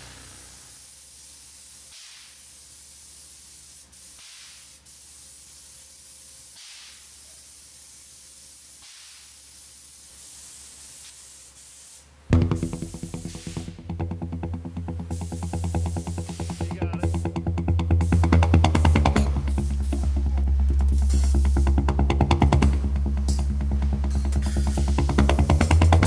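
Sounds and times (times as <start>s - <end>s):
spray gun hissing: 0.0s - 26.0s.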